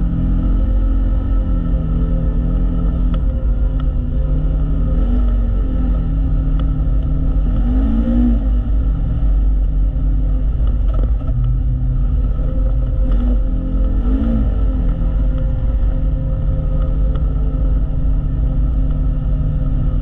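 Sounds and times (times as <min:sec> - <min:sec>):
utility vehicle engine rumble: 0:00.0 - 0:20.0.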